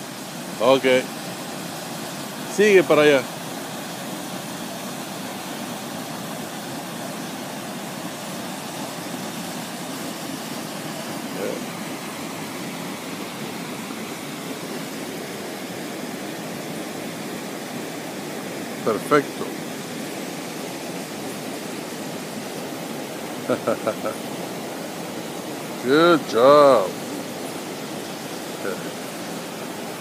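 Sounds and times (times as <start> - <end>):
waterfall and stream over rocks: 0.0 - 30.0.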